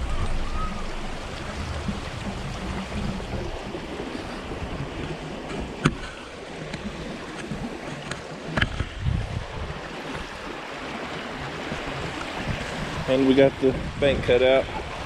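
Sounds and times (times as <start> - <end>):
water rushing out of pond: 0.0 - 15.0.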